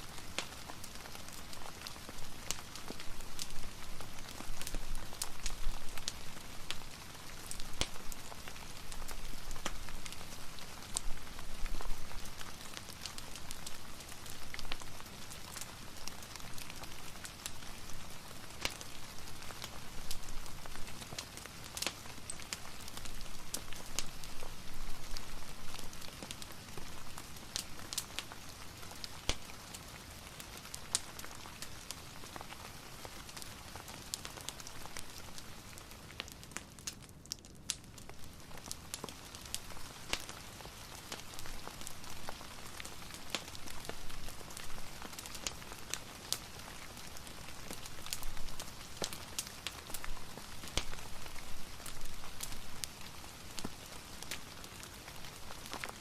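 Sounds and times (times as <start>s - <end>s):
fireplace crackling: 0.0s - 56.0s
soft rain: 0.0s - 56.0s.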